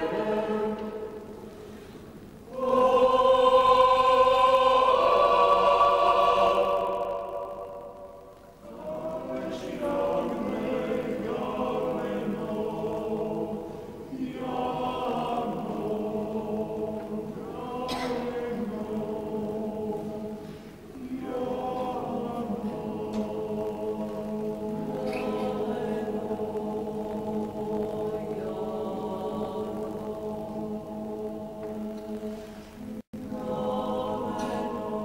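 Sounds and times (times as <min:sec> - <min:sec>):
mixed choir singing: 0:00.0 - 0:35.0.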